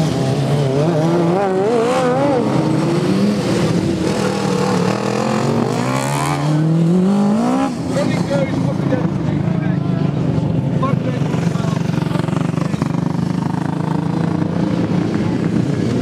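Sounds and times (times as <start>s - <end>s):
racing lawn mower engines: 0.0s - 16.0s.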